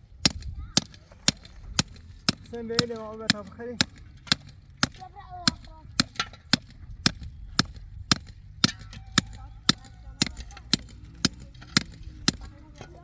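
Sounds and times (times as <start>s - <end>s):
hammer striking: 0.3s - 13.0s.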